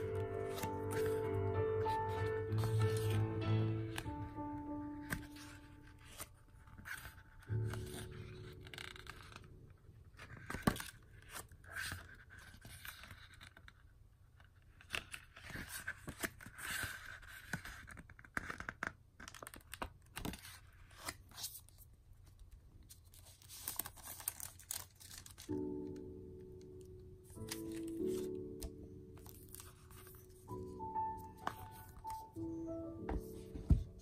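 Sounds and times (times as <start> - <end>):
paper rustling: 0.0 - 34.0.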